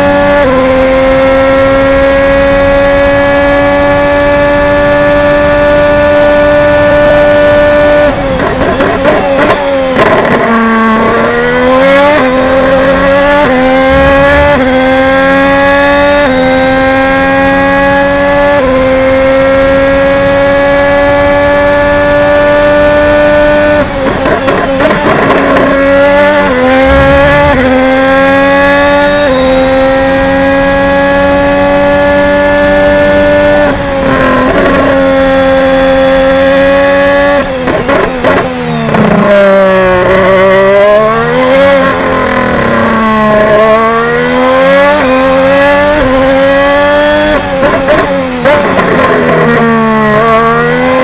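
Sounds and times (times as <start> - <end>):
racing car engine at high revs: 0.0 - 51.0.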